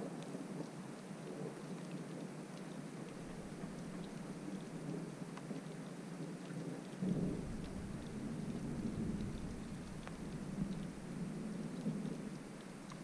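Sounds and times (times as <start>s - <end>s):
steady rain: 0.0s - 13.0s
raindrops ticking: 0.2s - 13.0s.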